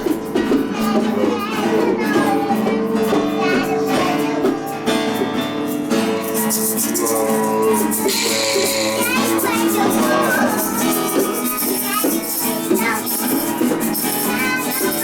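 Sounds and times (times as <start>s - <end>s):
informal jam music: 0.0s - 15.0s
shaker rattling in rhythm: 0.0s - 15.0s.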